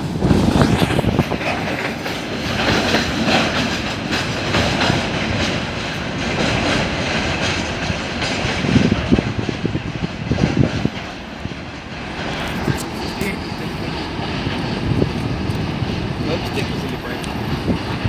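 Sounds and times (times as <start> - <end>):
wheels clacking over rail joints: 0.0 - 18.0.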